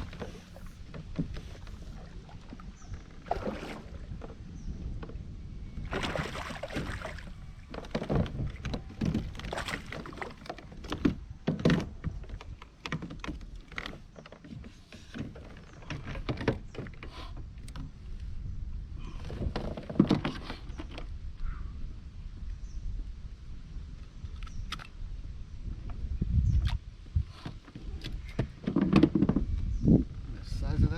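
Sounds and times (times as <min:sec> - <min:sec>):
wind rumble on microphone: 0:00.0 - 0:30.9.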